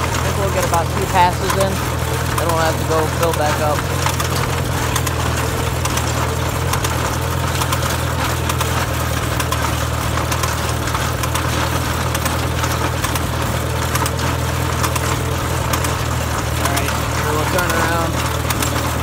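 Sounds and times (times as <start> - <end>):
manure spreader clicking and rattling: 0.0 - 19.0
tractor engine running: 0.0 - 19.0.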